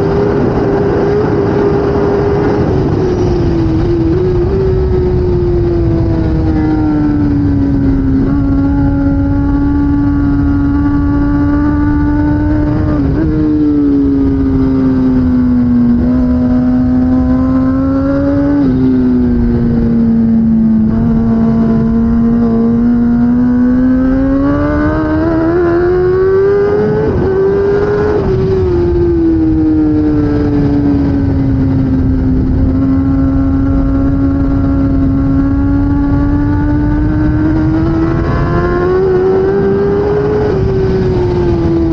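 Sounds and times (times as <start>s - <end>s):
motorcycle engine accelerating: 0.0s - 41.9s
wind rushing: 0.0s - 41.9s.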